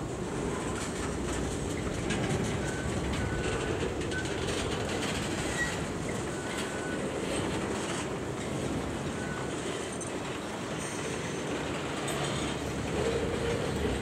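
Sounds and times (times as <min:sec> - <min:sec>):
train cars rumbling: 0:00.0 - 0:14.0.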